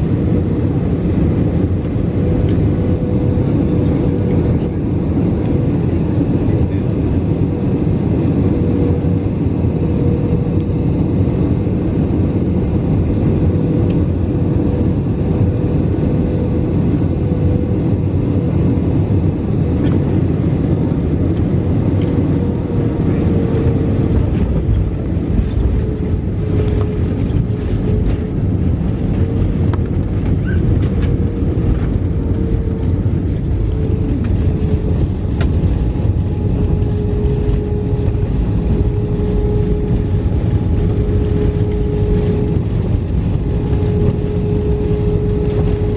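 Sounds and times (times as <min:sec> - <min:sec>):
airplane cabin engine roar: 0:00.0 - 0:45.9.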